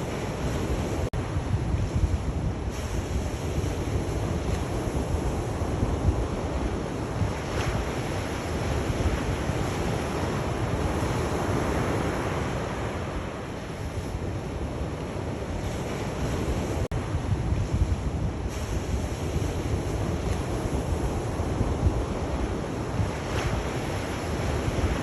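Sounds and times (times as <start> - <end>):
sea waves breaking on shore: 0.0 - 25.0
wind buffeting microphone: 0.0 - 25.0.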